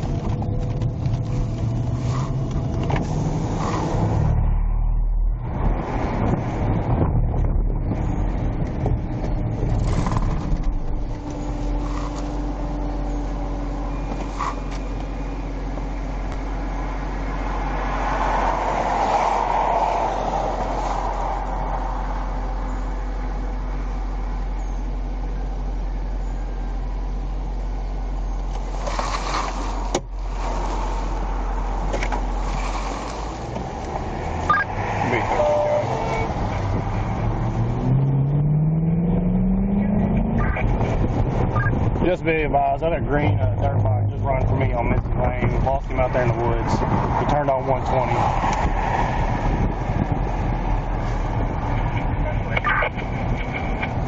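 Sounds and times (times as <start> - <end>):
car engine and road hum: 0.0 - 54.0.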